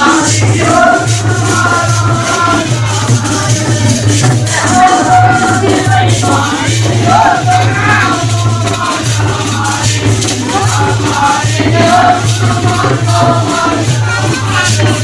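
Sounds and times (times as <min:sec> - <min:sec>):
rattling hand percussion: 0:00.0 - 0:15.0.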